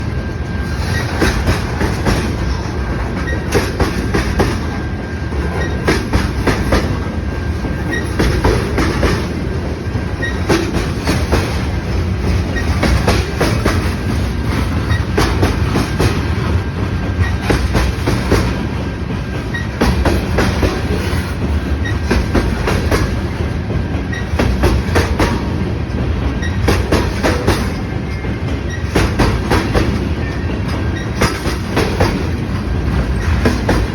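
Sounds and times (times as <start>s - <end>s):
train rumble: 0.0s - 33.9s
train wheels clicking on rail joints: 0.0s - 33.9s.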